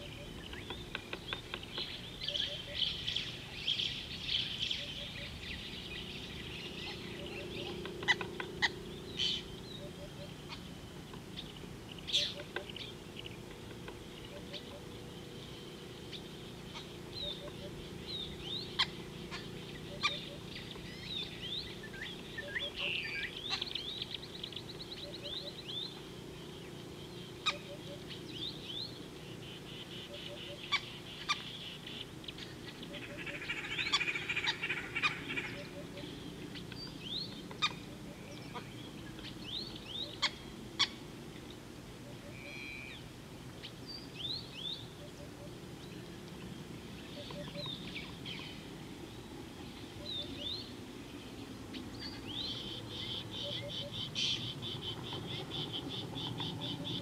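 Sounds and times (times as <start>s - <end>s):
bird trilling: 0.0s - 10.7s, 11.3s - 26.0s, 27.4s - 41.0s, 42.1s - 43.0s, 47.1s - 48.6s, 51.8s - 57.0s
birds chirping: 0.0s - 57.0s
steady low hum: 0.0s - 57.0s.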